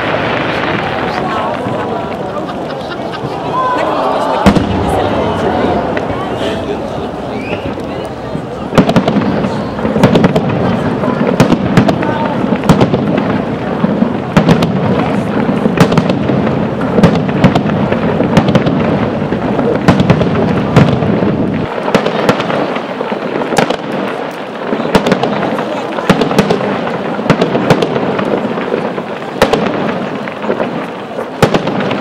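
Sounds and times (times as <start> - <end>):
fireworks bangs and pops: 0.0 - 32.0.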